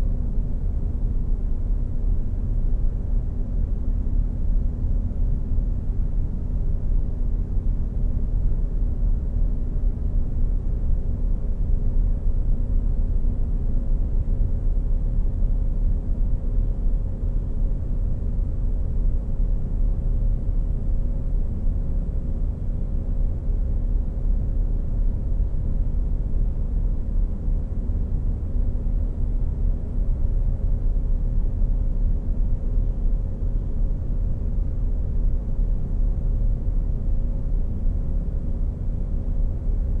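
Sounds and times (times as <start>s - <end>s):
faint constant hum: 0.0s - 40.0s.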